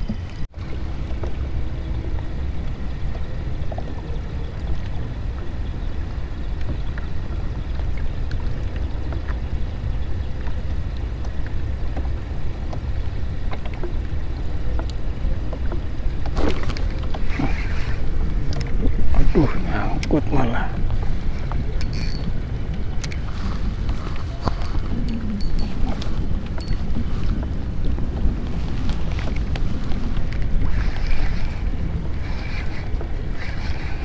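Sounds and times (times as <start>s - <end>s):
water lapping against boat: 0.0s - 34.0s
wind rumbling on microphone: 0.0s - 34.0s
faint clicks: 2.2s - 19.2s, 20.8s - 34.0s.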